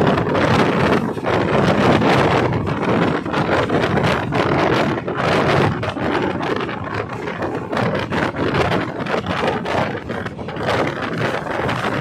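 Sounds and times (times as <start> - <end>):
train running rush: 0.0 - 12.0.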